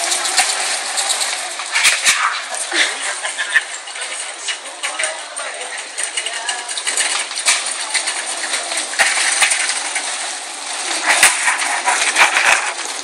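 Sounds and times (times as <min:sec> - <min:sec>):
cart wheels rolling on concrete: 0:00.0 - 0:13.0
metal basket rattling: 0:00.0 - 0:13.0.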